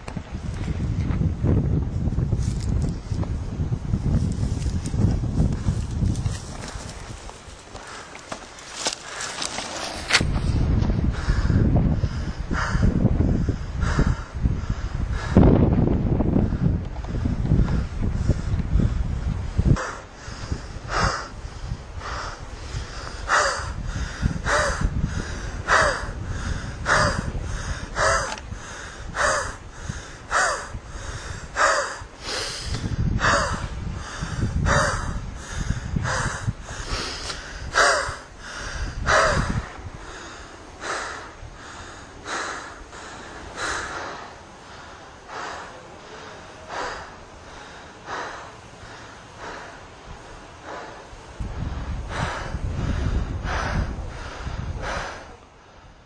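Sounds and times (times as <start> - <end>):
wind rumble on microphone: 0.0 - 56.0
person breathing hard: 7.7 - 9.7, 10.4 - 15.7, 16.3 - 56.0.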